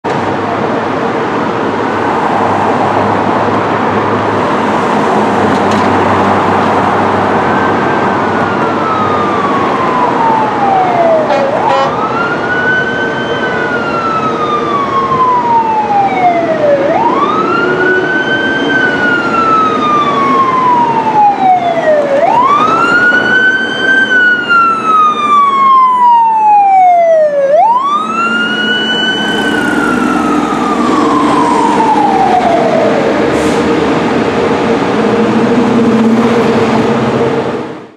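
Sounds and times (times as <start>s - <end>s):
traffic and engine noise: 0.0s - 37.9s
fire truck siren: 0.1s - 37.9s.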